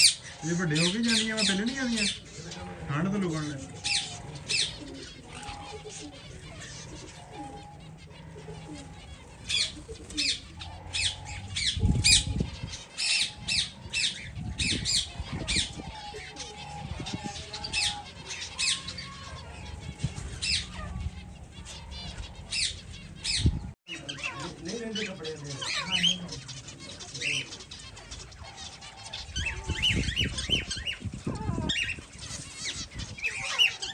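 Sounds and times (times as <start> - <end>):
finches calling: 0.0 - 33.9.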